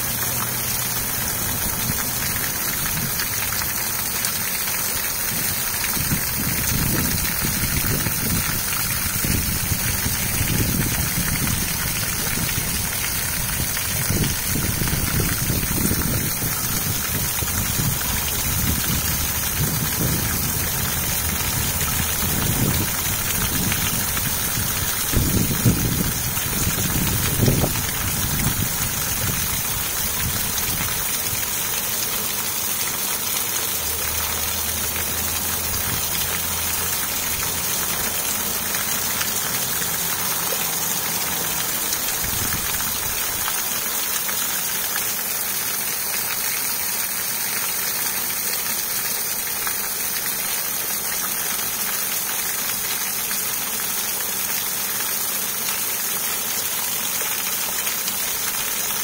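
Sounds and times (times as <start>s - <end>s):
waterfall splashing into pond: 0.0s - 59.0s.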